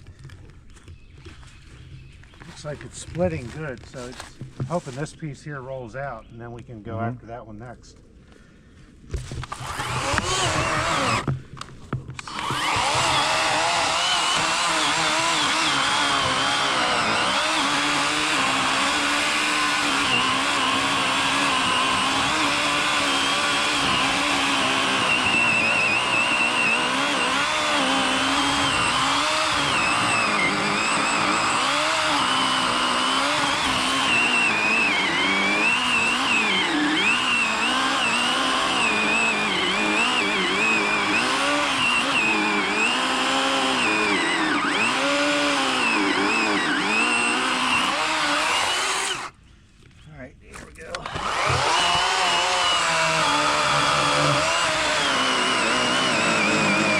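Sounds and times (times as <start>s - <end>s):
chainsaw cutting log: 9.1s - 49.4s, 50.9s - 56.9s.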